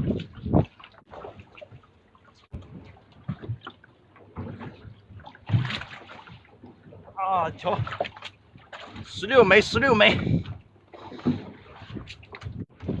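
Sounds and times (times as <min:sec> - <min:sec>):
water splashing against boat: 0:00.0 - 0:13.0.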